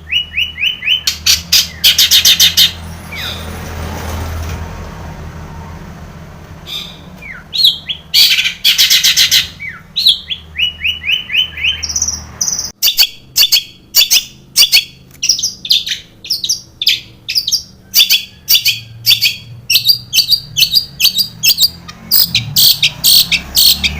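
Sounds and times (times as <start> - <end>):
shrike singing: 0.0 - 3.5, 6.6 - 23.9.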